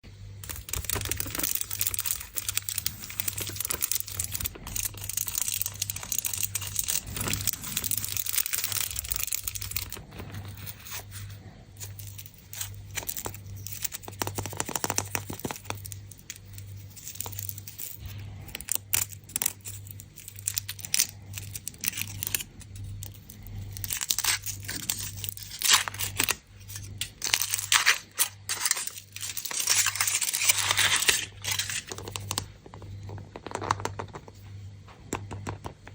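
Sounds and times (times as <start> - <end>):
foil wrappers crinkling: 0.4 - 34.2.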